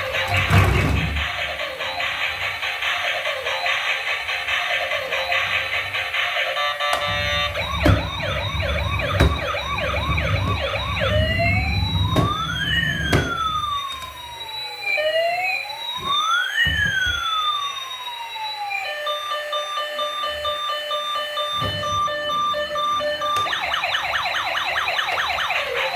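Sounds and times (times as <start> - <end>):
toy police siren: 0.0 - 25.9.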